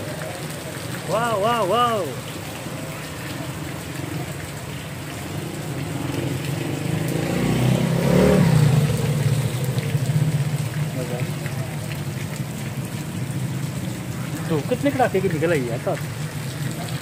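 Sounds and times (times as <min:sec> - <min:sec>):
vehicle driving past on wet street: 0:00.0 - 0:17.0.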